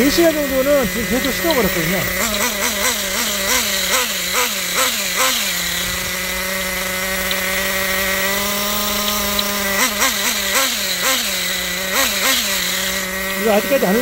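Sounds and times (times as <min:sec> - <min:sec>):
small glow engine revving and idling: 0:00.0 - 0:14.0.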